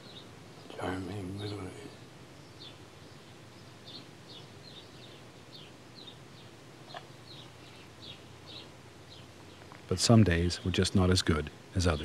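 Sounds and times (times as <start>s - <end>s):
bird chirping: 0.0s - 12.0s
faint background hiss: 0.0s - 12.0s.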